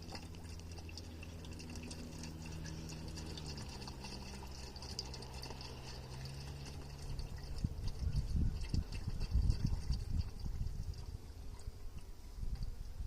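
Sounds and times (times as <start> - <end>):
syrup trickling into feeder: 0.0 - 12.8.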